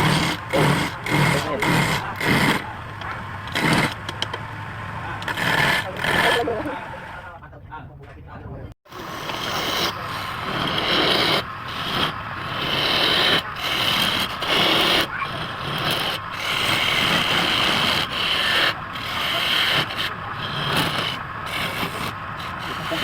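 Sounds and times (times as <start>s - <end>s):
lathe tool scraping wood: 0.0s - 7.3s, 8.9s - 23.0s.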